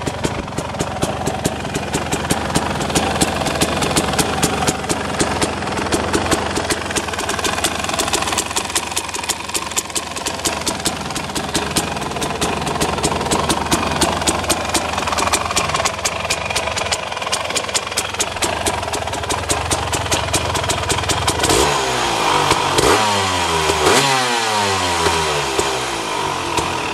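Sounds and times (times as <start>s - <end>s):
two-stroke engine idling and revving: 0.0s - 26.9s.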